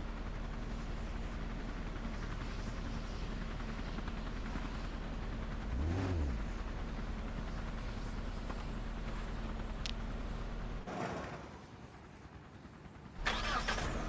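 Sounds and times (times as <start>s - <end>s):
vehicle humming: 0.0s - 11.4s.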